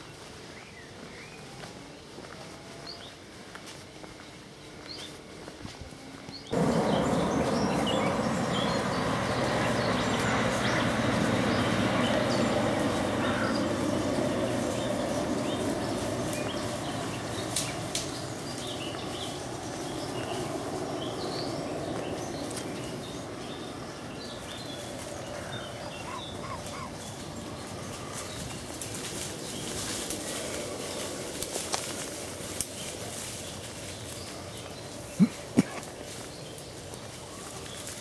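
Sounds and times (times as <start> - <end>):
small birds chirping: 6.1 - 38.0.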